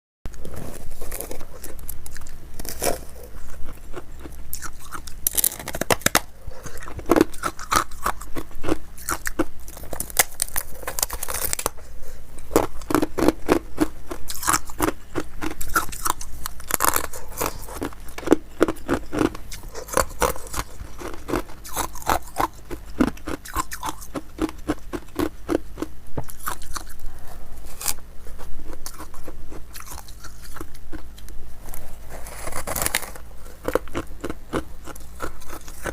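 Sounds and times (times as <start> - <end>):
ice cubes being chewed: 0.4 - 11.8, 12.4 - 27.1, 27.7 - 31.2, 31.9 - 35.9.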